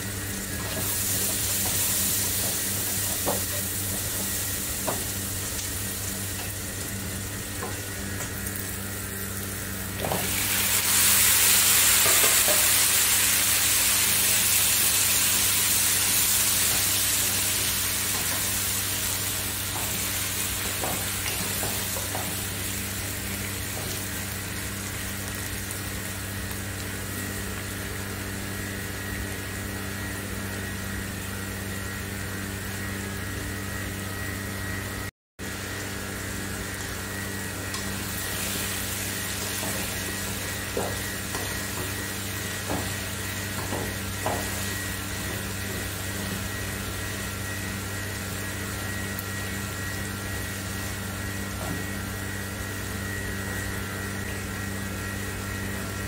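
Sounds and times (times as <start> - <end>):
vegetables sizzling in a wok: 0.0 - 56.0.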